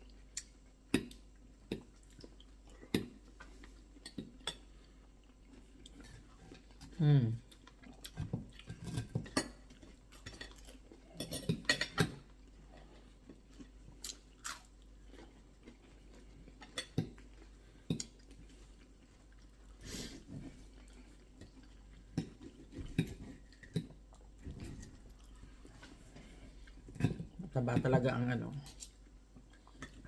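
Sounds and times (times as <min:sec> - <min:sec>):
chewing: 0:00.0 - 0:27.4, 0:28.6 - 0:30.0.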